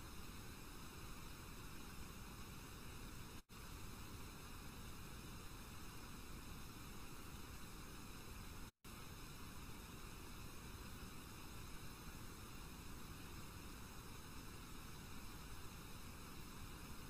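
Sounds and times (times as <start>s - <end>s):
background hiss and hum: 0.0s - 17.0s.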